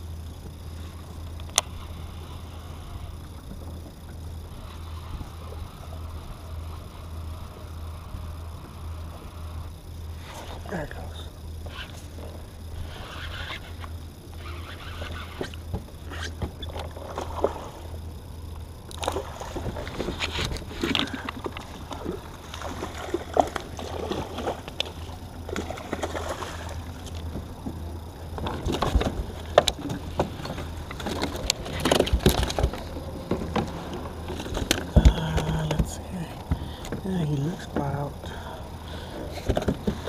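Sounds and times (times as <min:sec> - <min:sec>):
water sloshing against hull: 0:00.0 - 0:40.0.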